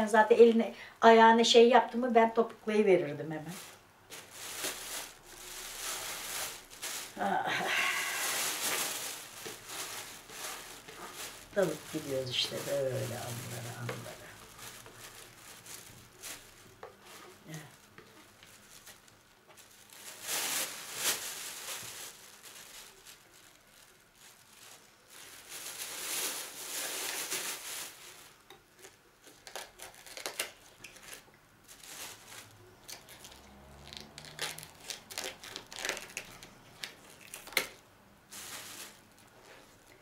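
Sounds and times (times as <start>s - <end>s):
plastic bags crinkling: 3.4s - 40.0s.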